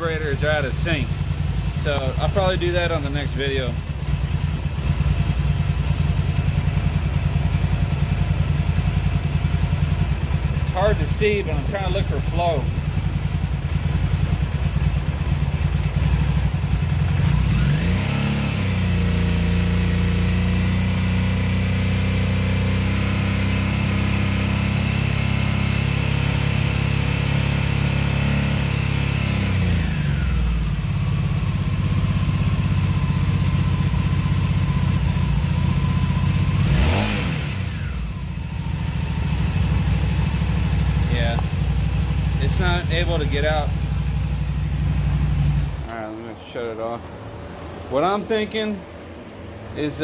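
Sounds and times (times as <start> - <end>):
motorcycle engine revving: 0.0 - 46.2
uneven engine idle: 0.0 - 46.6.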